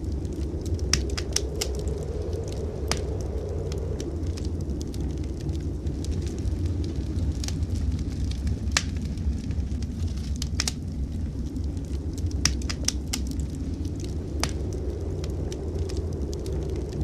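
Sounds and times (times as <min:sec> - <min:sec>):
blizzard wind rumble: 0:00.0 - 0:17.0
fire popping: 0:00.0 - 0:17.0
wood fire crackling: 0:00.0 - 0:17.0.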